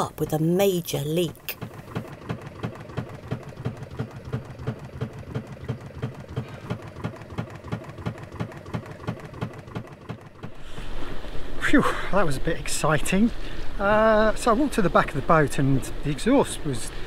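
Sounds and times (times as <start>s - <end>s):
diesel engine pulsing: 0.0s - 17.0s.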